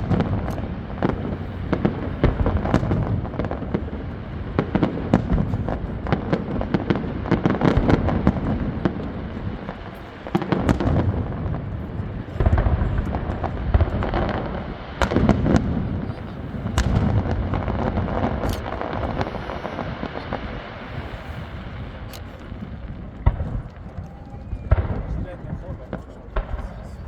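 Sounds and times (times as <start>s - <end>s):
deep fireworks booms: 0.0s - 27.0s
fireworks bangs and crackling: 0.0s - 27.0s.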